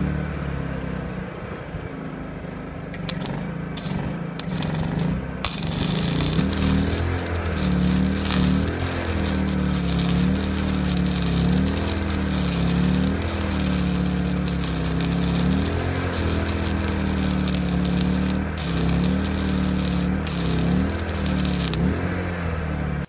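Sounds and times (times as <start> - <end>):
welding arc crackling: 3.0 - 22.4
low hum: 3.0 - 22.7.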